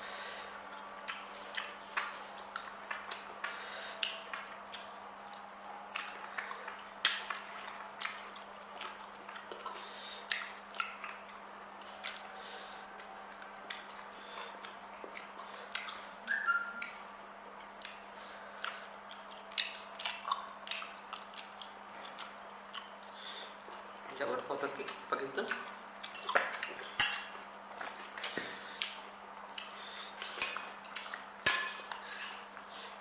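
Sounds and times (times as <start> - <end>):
person chewing food: 0.4 - 24.0, 24.8 - 33.0.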